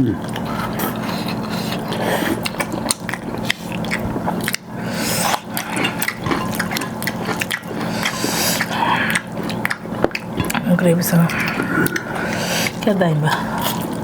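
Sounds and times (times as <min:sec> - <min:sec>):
steady low hum: 0:00.0 - 0:14.0
chewing with wet clicks: 0:00.2 - 0:14.0.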